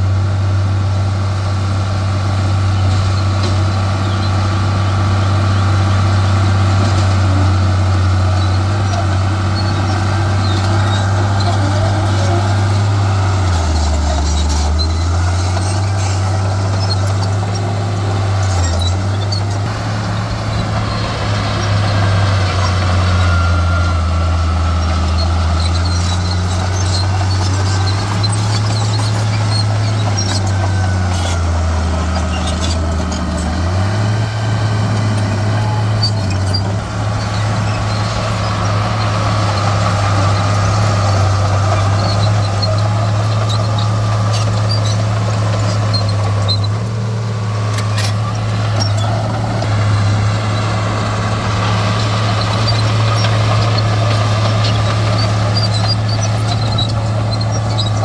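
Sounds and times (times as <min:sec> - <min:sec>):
heavy diesel machinery engine: 0:00.0 - 0:58.0.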